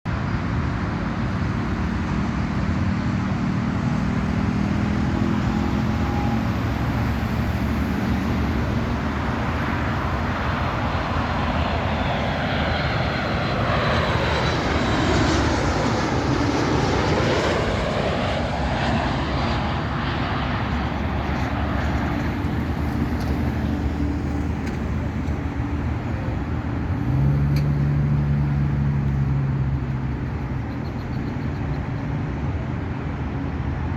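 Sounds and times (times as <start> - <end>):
jet airliner roar passing: 0.1 - 33.9.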